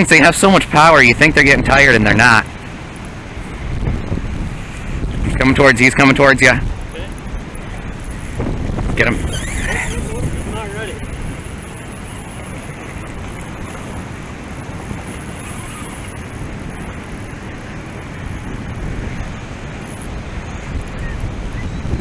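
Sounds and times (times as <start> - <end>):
fast-flowing river rushing: 0.0 - 22.0
wind buffeting microphone: 0.0 - 22.0.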